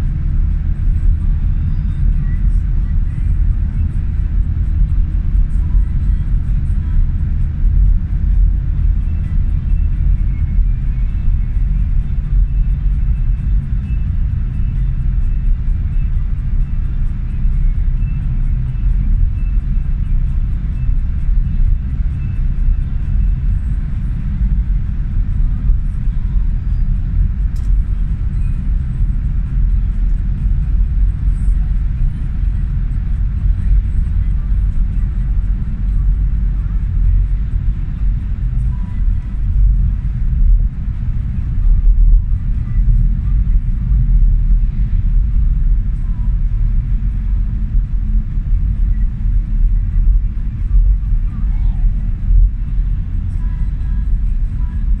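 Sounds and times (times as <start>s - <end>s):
trucks rumbling in traffic: 0.0s - 55.0s.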